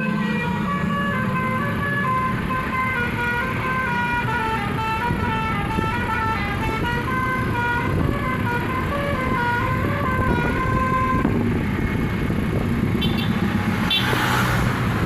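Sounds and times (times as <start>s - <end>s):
multi-note bus horn melody: 0.0s - 12.0s, 13.0s - 14.2s
bus engine running: 0.0s - 15.0s.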